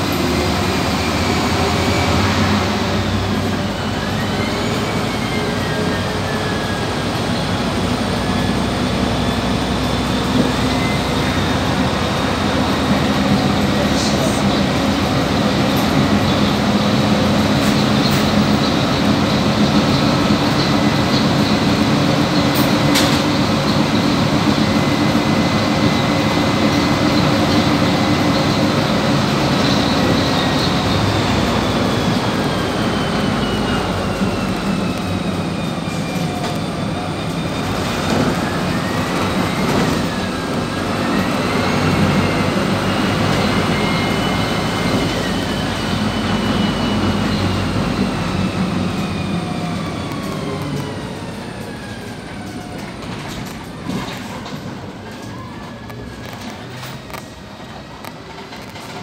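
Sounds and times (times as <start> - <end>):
bus interior running noise: 0.0 - 59.0
high drivetrain whine: 0.0 - 59.0.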